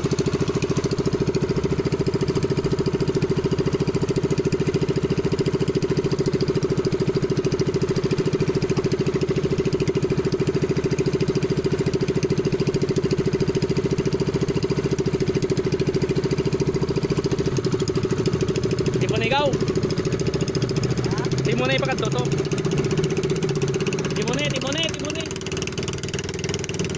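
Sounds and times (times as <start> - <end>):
small boat engine running: 0.0 - 26.9.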